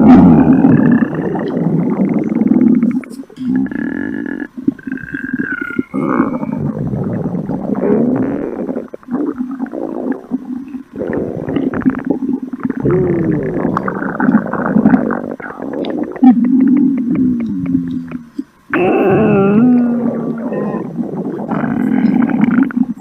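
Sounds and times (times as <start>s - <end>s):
stomach growling: 0.0s - 23.0s.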